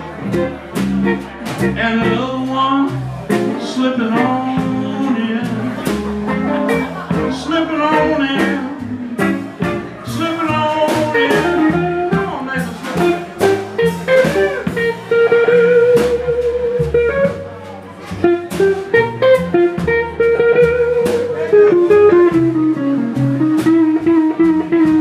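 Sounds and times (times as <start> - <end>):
live blues band playing: 0.0 - 25.0.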